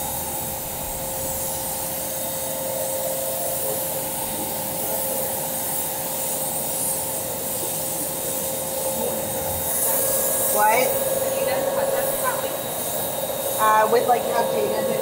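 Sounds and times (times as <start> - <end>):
electric blower motor whirring: 0.0 - 15.0.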